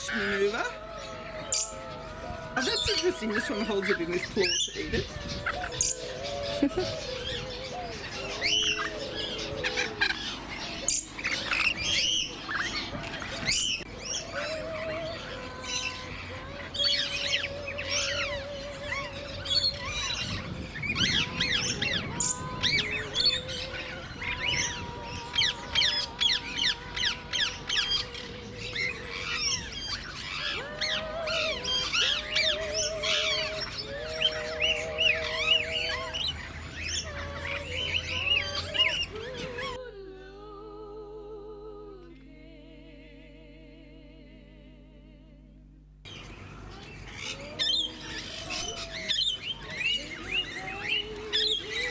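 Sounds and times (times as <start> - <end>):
birds chirping and squawking: 0.0 - 39.8, 46.1 - 51.9
wavering whistled bird notes: 0.0 - 39.8, 46.1 - 51.9.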